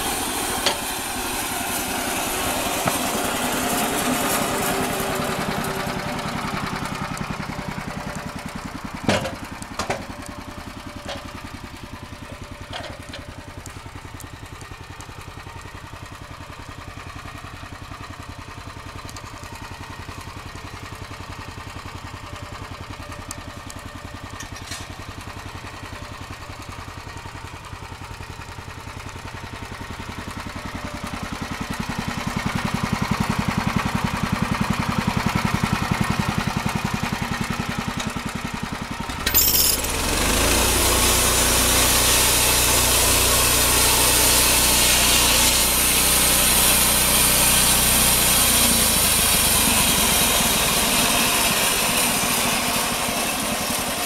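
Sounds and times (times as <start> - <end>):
sawmill engine idling: 0.0 - 54.0.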